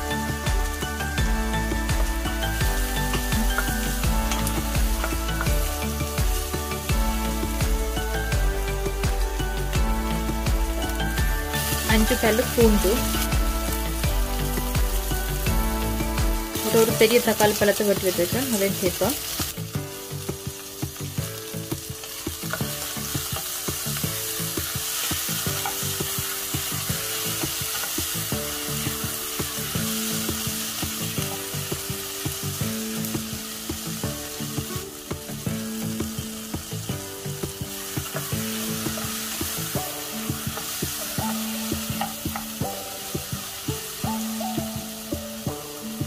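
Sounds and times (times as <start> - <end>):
soft background music: 0.0 - 46.0
vegetables sizzling in hot oil: 0.0 - 46.0.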